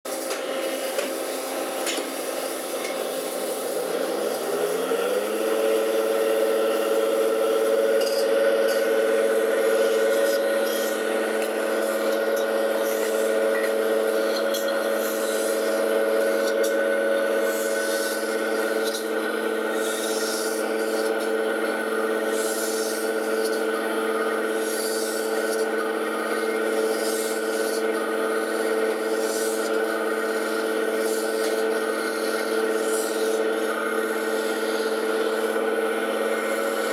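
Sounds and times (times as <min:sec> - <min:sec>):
metal spinning lathe whine: 0:00.1 - 0:36.9.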